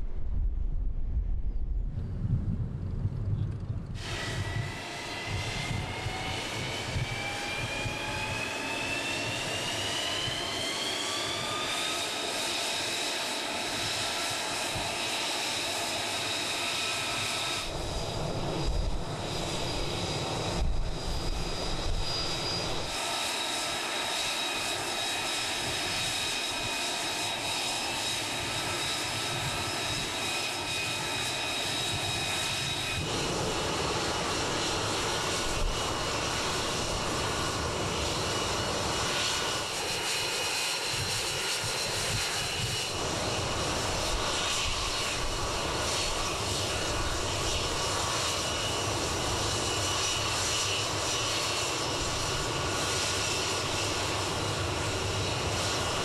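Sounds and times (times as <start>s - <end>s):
jet exhaust rush: 0.0s - 56.0s
jet turbine whine: 0.0s - 56.0s.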